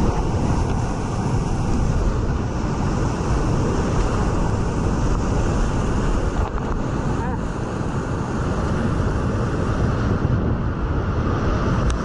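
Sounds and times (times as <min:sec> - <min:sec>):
whitewater rapids rushing: 0:00.0 - 0:09.7.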